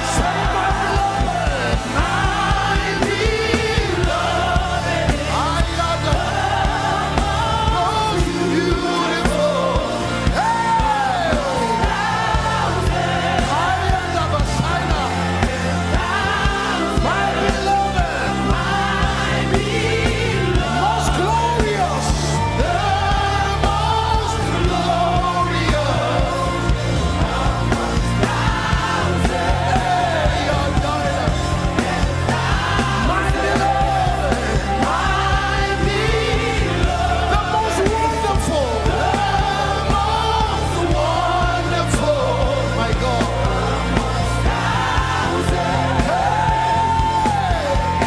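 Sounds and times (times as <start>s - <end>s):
bass line: 0.0s - 48.0s
sustained keyboard chords: 0.0s - 48.0s.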